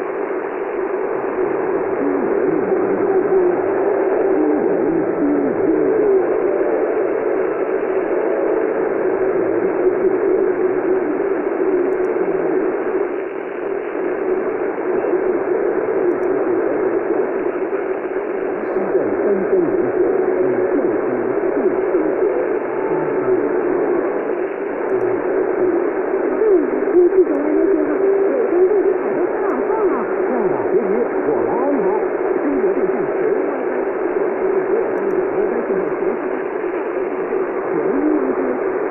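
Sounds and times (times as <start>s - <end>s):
faint wavering radio signal: 0.0s - 38.9s
radio static and hiss: 0.0s - 38.9s.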